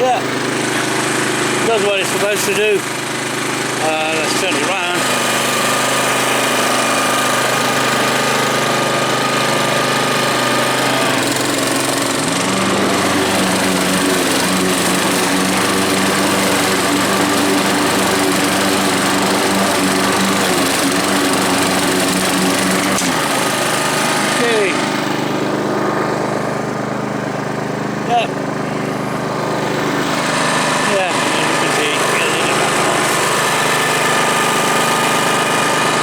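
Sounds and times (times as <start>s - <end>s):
lawnmower engine running: 0.0s - 36.0s.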